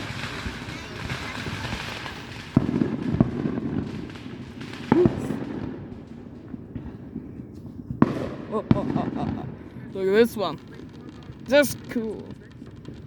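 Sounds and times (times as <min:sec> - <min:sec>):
firework bangs: 0:00.0 - 0:13.0
firework crackling: 0:00.0 - 0:13.0.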